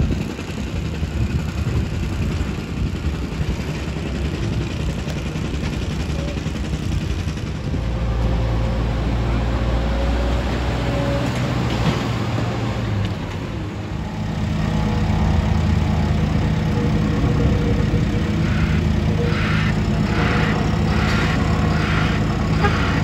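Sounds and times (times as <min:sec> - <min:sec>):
diesel machinery engines running: 0:00.0 - 0:23.0.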